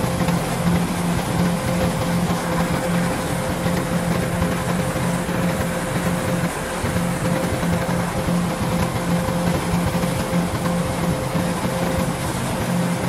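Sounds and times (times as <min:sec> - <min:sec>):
combine harvester engine humming: 0:00.0 - 0:13.0.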